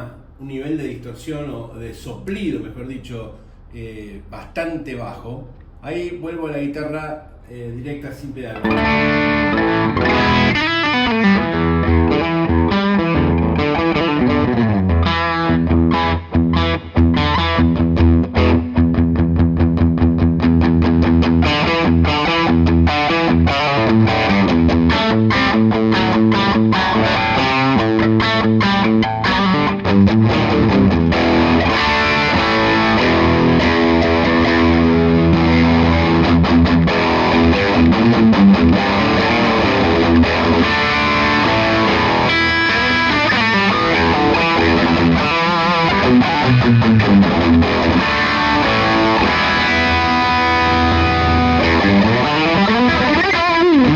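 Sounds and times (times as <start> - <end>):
distorted electric guitar: 8.6 - 53.9.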